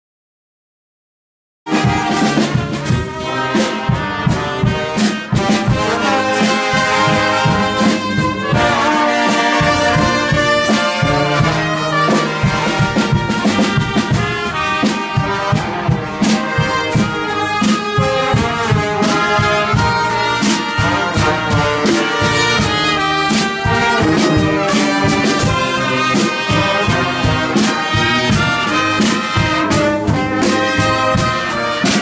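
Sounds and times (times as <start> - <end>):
clarinet: 1.7 - 32.0
large brass horn: 1.7 - 32.0
trumpets: 1.7 - 32.0
bass drum beat: 1.8 - 28.8.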